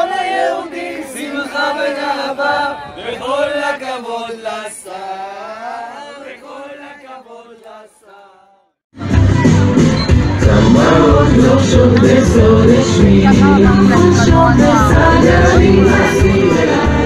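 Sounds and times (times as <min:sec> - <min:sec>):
group singing in unison: 0:00.0 - 0:08.8, 0:10.4 - 0:17.0.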